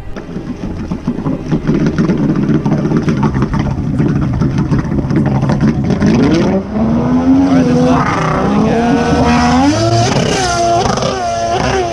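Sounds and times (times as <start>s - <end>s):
jet ski engine running: 0.0s - 11.9s.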